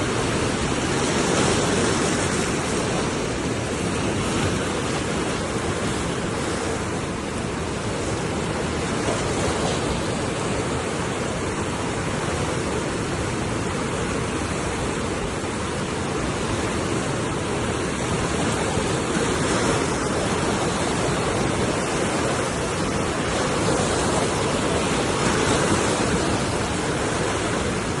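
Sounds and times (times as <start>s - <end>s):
fast-moving river water rushing: 0.0s - 28.0s.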